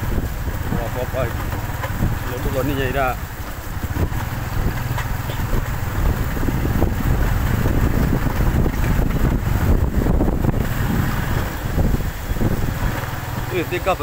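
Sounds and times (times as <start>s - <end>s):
motorcycle engine rumble: 0.0s - 14.0s
wind buffeting microphone: 0.0s - 14.0s.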